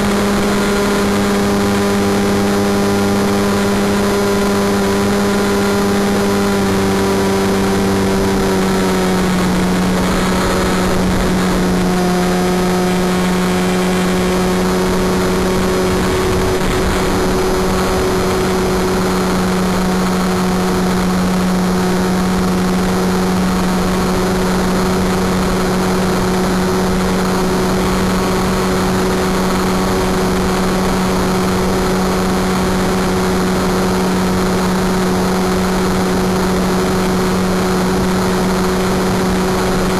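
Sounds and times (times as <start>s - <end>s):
model plane motor droning: 0.0s - 39.9s.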